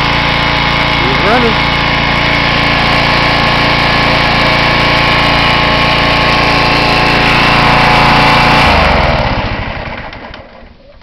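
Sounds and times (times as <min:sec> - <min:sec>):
small gasoline engine running: 0:00.0 - 0:10.8.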